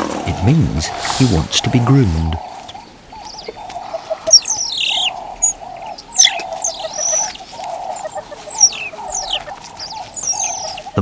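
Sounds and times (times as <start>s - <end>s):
birds chittering: 0.0s - 11.0s
birds whistling falling notes: 0.0s - 11.0s.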